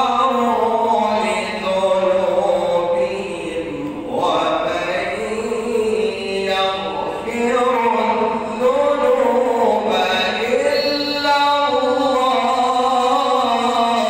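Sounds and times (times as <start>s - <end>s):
man chanting a recitation: 0.0s - 14.0s.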